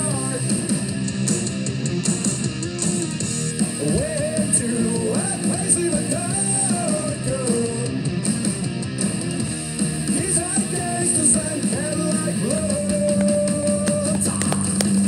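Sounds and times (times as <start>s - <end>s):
rock song with guitar: 0.0s - 15.0s.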